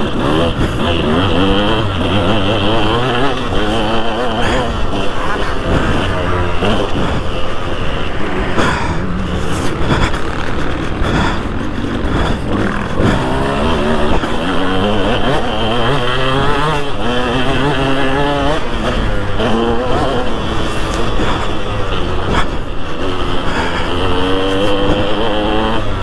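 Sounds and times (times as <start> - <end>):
motocross engine revving: 0.0 - 26.0.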